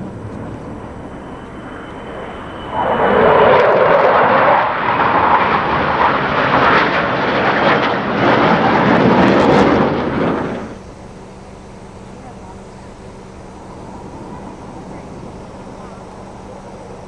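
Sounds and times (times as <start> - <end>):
jet fighter roaring past: 0.0 - 17.0.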